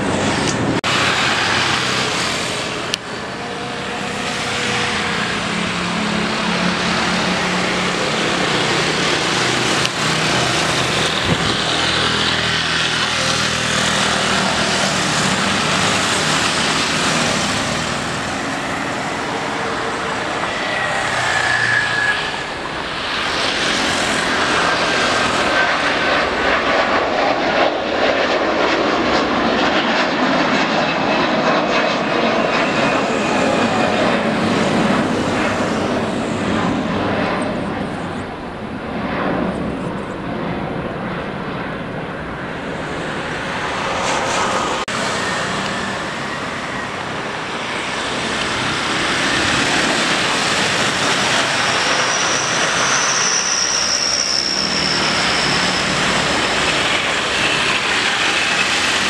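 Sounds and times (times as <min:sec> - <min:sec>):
jet engines at takeoff thrust: 0:00.0 - 0:59.0.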